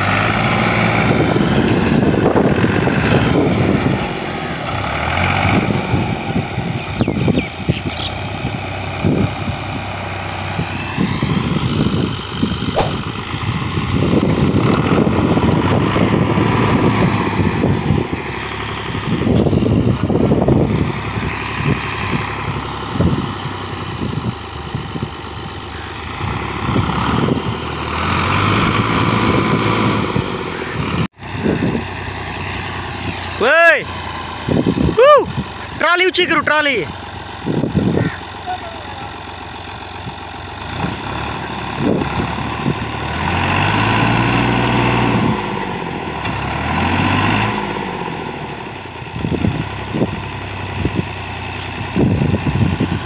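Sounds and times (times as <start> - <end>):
tractor diesel engine straining: 0.0 - 53.0.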